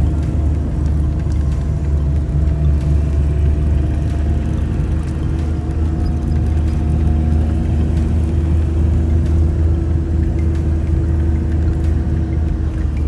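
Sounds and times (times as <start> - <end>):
vehicle engine and road drone: 0.0 - 13.0.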